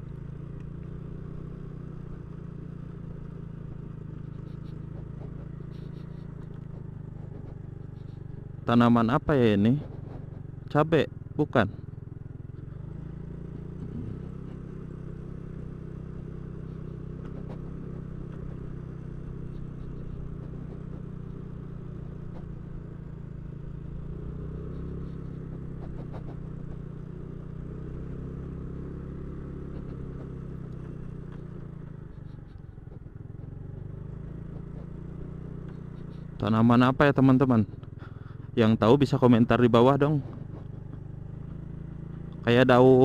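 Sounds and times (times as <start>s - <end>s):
small motorcycle engine running: 0.0s - 43.0s.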